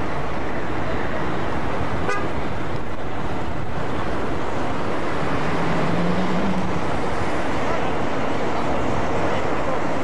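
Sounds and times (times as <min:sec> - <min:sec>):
diesel locomotive hauling coaches: 0:00.0 - 0:10.0.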